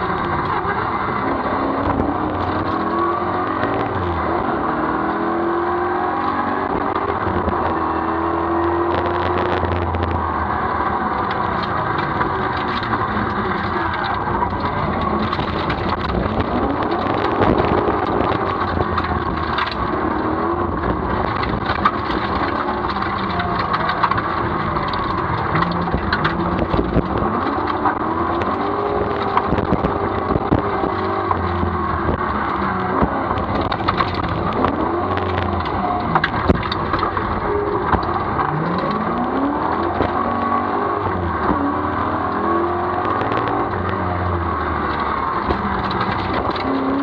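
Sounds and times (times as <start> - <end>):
car engine revving: 0.0 - 47.0
sharp clicks and knocks: 0.0 - 47.0.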